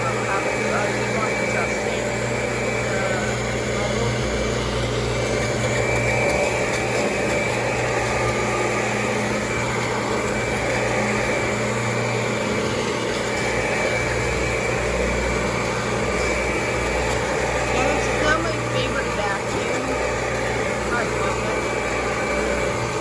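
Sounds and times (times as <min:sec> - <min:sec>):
upright vacuum cleaner running: 0:00.0 - 0:23.0.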